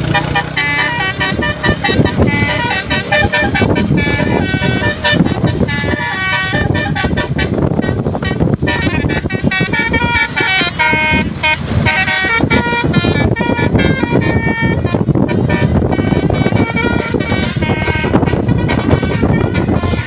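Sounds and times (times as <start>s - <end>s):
multi-tone bus horn tune: 0.0s - 20.0s
wind buffeting microphone: 0.0s - 20.0s.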